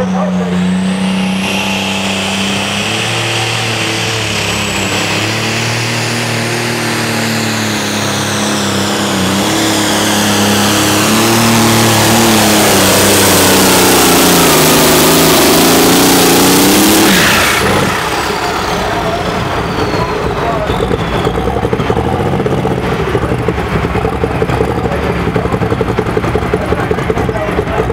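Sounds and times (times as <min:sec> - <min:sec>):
high whine: 0:00.0 - 0:27.8
tractor engine running hard: 0:00.0 - 0:27.9.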